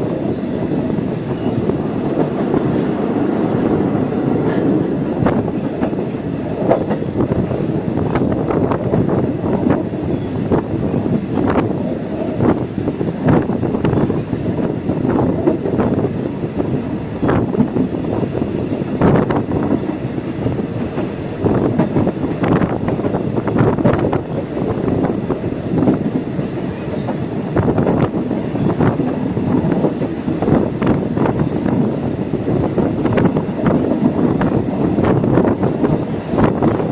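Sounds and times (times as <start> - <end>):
train rumbling on track: 0.0 - 36.9.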